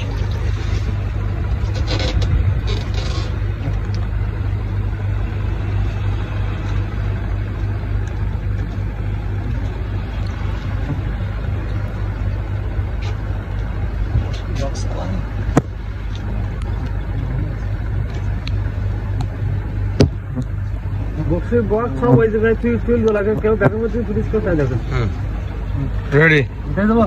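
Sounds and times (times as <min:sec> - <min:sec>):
engine running with low hum: 0:00.0 - 0:27.0.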